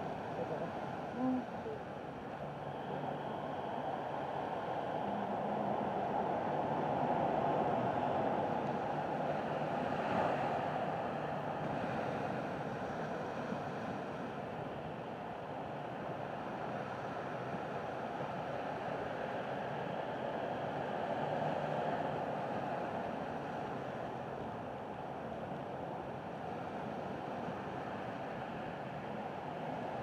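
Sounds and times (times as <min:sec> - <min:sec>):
sea surf washing on shore: 0:00.0 - 0:30.0.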